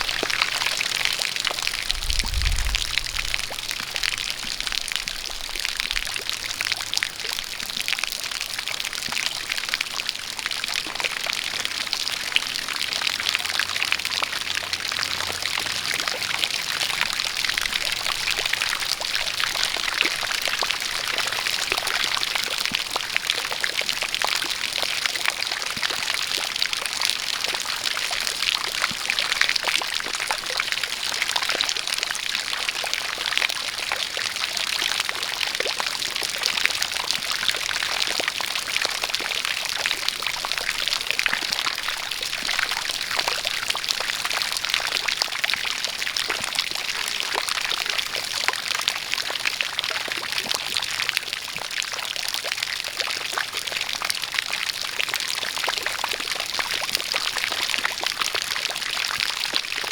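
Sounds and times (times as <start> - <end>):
rain patter: 0.0 - 59.9
water pouring and splashing: 0.0 - 59.9.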